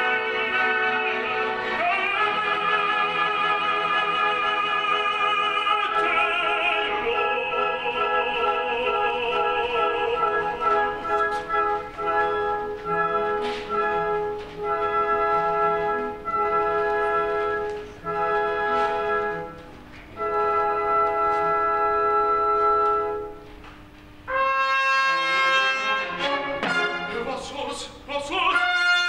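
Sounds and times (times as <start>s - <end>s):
orchestra playing brass chords: 0.0s - 23.5s, 24.2s - 27.5s, 28.4s - 29.0s.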